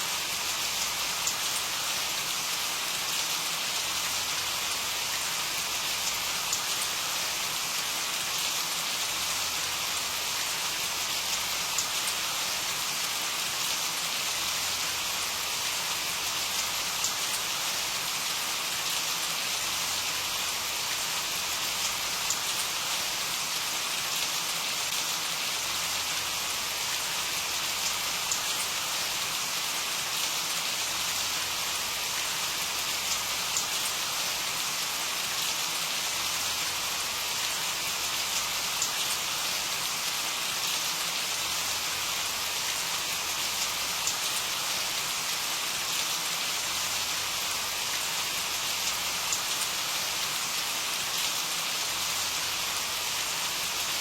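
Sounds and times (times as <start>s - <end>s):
rain pattering on a surface: 0.0s - 54.0s.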